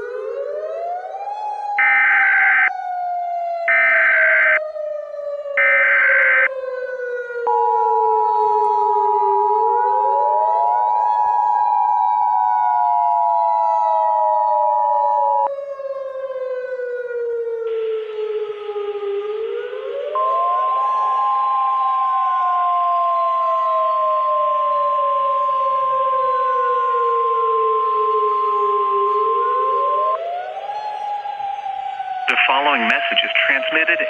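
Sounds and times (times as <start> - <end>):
civil defense siren wailing: 0.0 - 33.7.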